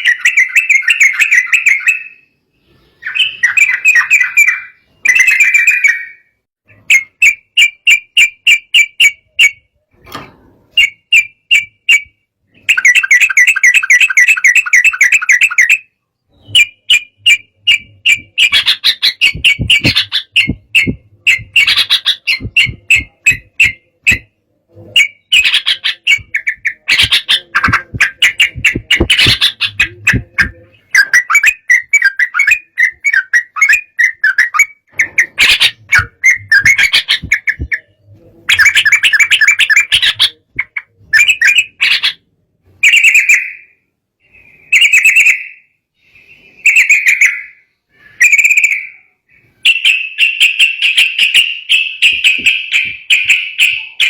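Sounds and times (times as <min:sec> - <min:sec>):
bird chattering whistled song: 0:00.0 - 0:09.9, 0:10.7 - 0:54.0.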